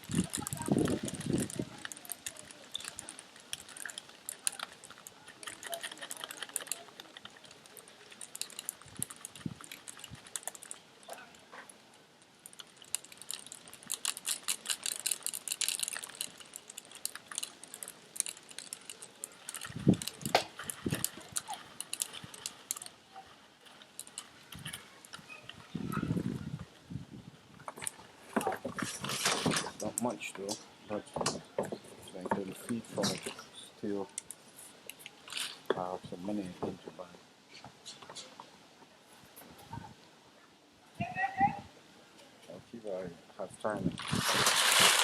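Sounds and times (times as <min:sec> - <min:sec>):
dry lentils rattling: 0:00.0 - 0:26.4, 0:27.7 - 0:36.8, 0:43.6 - 0:45.0.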